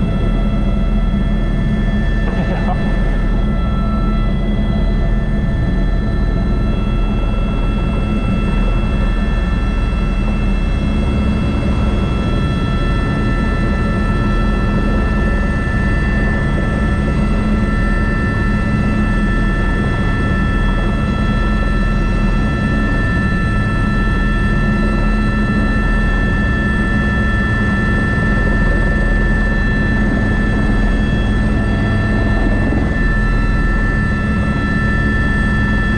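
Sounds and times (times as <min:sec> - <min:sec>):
helicopter rotor and engine drone: 0:00.0 - 0:35.9
high turbine whine: 0:00.0 - 0:35.9.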